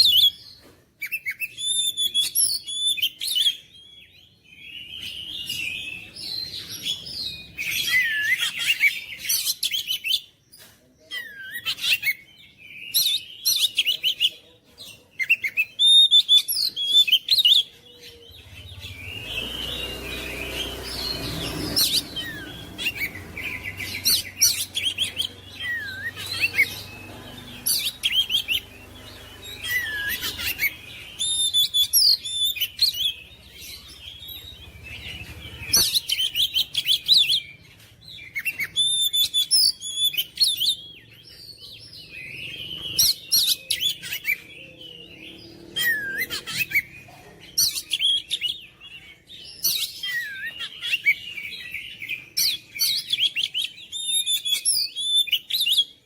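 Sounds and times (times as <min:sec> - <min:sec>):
bird singing whistles and chirps: 0:01.0 - 0:10.4, 0:11.0 - 0:14.4, 0:15.2 - 0:47.0, 0:47.6 - 0:56.0.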